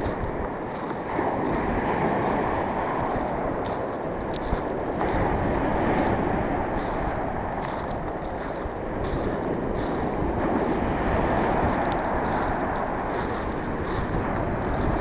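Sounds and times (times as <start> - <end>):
sea surf breaking on shore: 0.0 - 15.0
wind buffeting microphone: 0.0 - 15.0.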